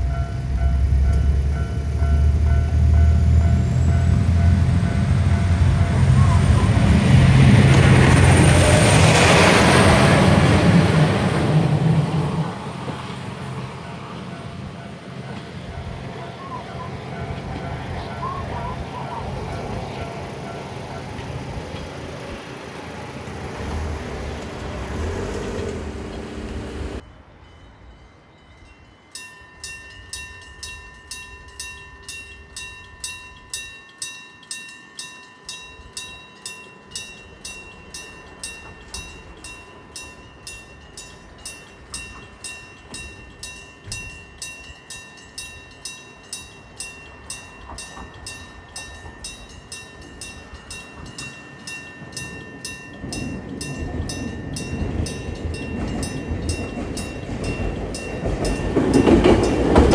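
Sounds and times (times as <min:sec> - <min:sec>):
railroad crossing bell ringing: 0:00.0 - 0:59.9
train running past: 0:00.0 - 0:59.9.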